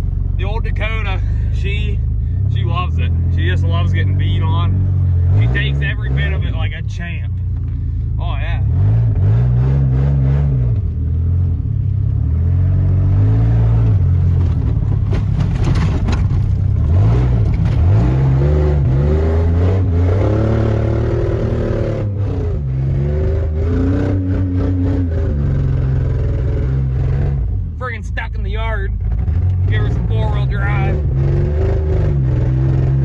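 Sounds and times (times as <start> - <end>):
pickup engine revving: 0.0 - 33.0.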